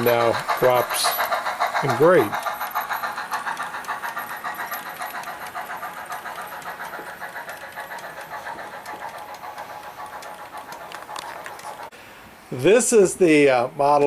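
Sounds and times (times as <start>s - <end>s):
model train clicking on track: 0.0s - 11.9s.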